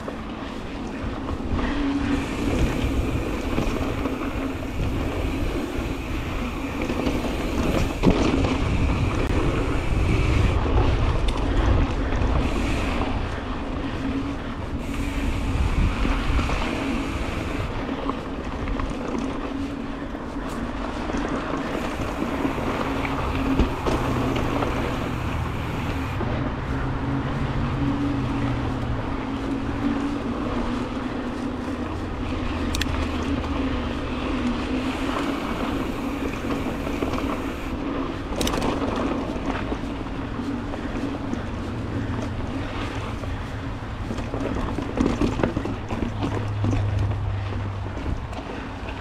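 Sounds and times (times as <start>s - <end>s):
bike tyres rolling on dirt: 0.0s - 49.0s
wind rush on microphone: 0.0s - 49.0s.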